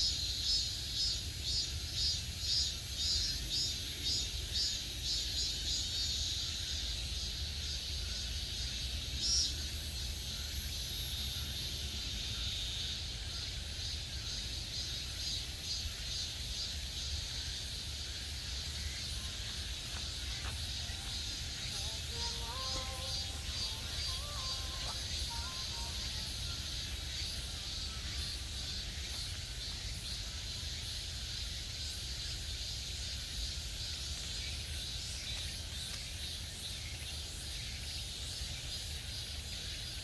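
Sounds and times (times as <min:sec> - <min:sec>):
cicadas pulsing song: 0:00.0 - 0:40.0.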